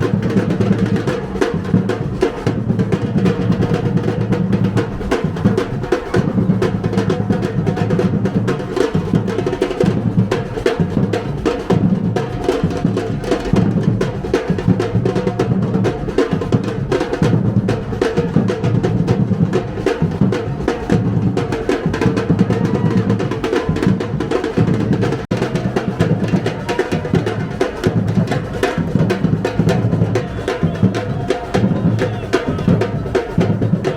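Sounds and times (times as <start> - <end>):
fast dense drumming music: 0.0 - 33.9.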